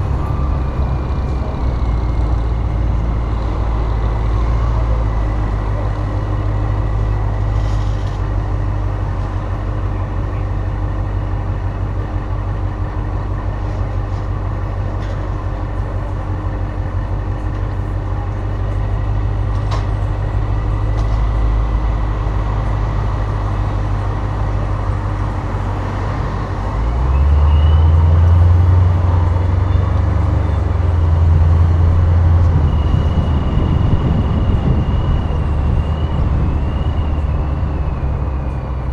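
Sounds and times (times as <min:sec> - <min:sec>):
car engine cruising: 0:00.0 - 0:38.9
road and wind noise: 0:00.0 - 0:38.9.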